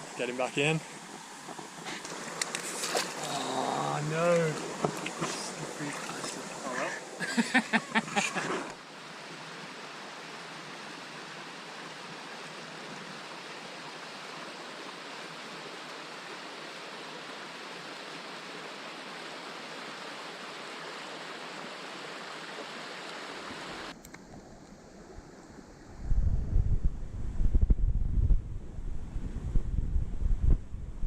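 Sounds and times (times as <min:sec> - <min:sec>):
creek water rushing: 0:00.0 - 0:25.8.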